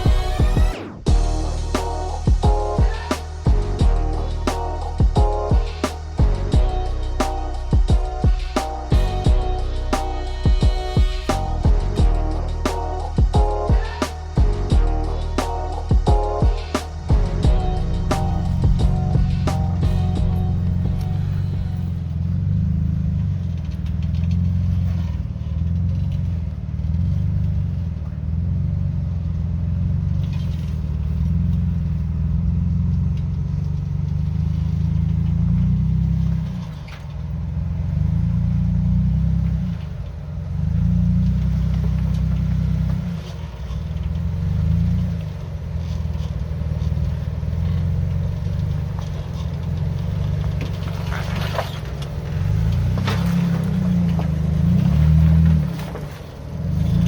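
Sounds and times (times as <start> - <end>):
off-road vehicle engine rumbling: 0.0 - 57.0.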